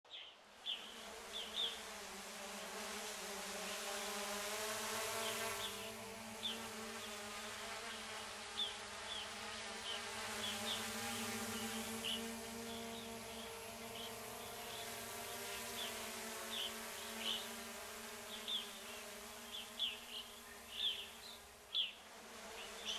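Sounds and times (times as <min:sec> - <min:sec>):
drone propellers buzzing: 0:01.2 - 0:21.3.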